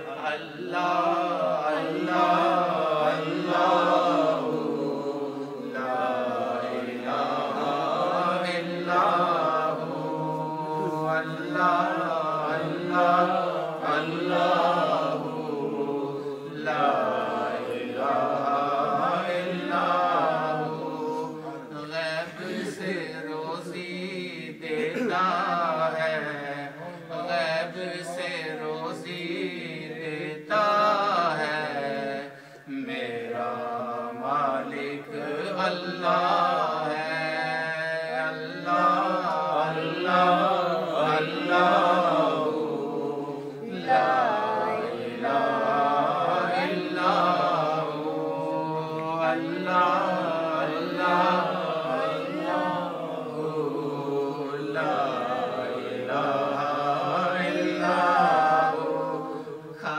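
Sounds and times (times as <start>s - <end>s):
man chanting into microphone: 0.0s - 59.9s.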